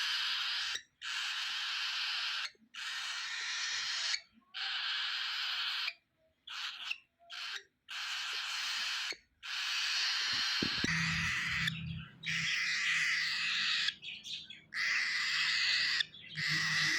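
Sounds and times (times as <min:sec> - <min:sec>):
baby cockatiel raspy begging calls: 0:00.0 - 0:16.9.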